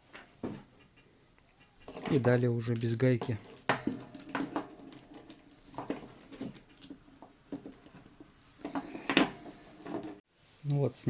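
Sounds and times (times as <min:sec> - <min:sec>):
metal parts and tools clicking: 0:00.7 - 0:10.2.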